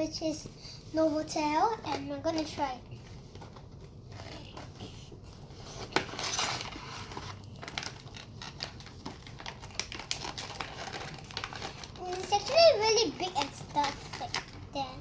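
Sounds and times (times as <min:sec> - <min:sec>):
plastic packaging crinkling: 0:01.8 - 0:15.0.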